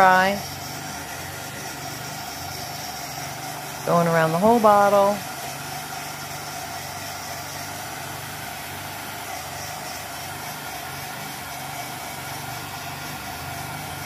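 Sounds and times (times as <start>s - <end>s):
heat dryer blowing air: 0.0s - 14.0s.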